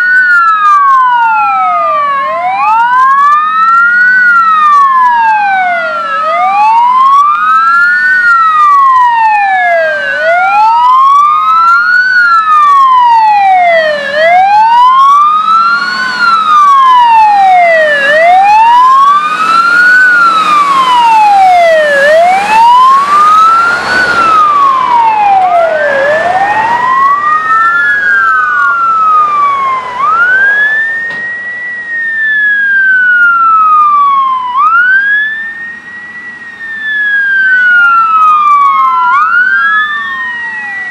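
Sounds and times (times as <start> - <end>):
diesel truck engine: 0.0 - 40.9
fire truck sirens wailing: 0.0 - 40.9
higher-pitched siren wail: 0.0 - 40.9.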